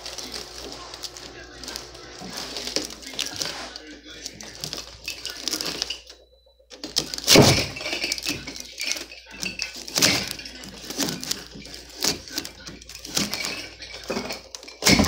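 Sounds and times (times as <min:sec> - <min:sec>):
metal fins crunching and crackling: 0:00.0 - 0:15.0.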